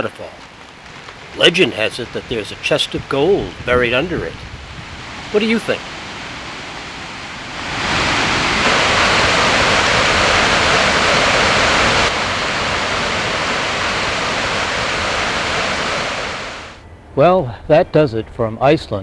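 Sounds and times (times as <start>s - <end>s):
waterfall roaring: 0.0s - 16.8s.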